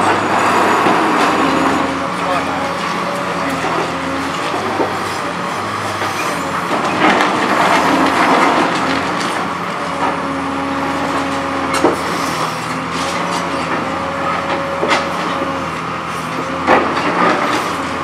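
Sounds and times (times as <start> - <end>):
concrete shear crunching concrete: 0.0 - 18.0
excavator diesel engine running: 0.0 - 18.0.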